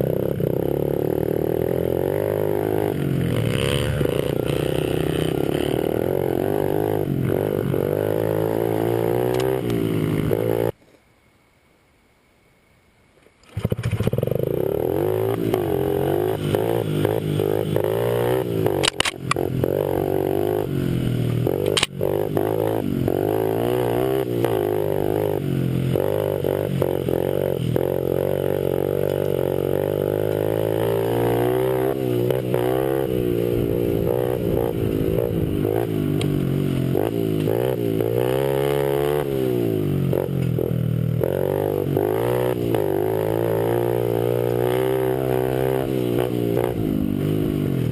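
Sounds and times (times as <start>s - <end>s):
pit bike engine revving: 0.0s - 10.8s, 13.5s - 47.9s.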